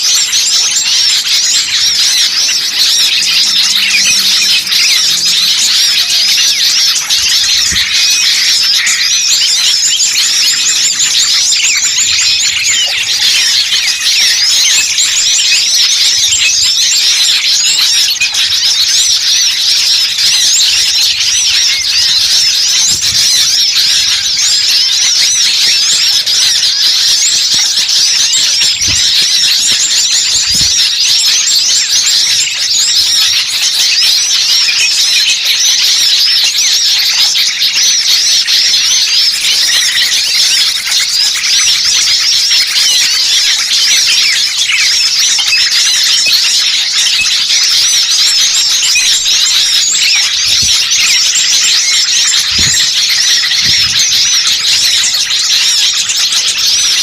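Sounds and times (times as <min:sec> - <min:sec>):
songbirds chirping and chattering: 0:00.0 - 0:57.0.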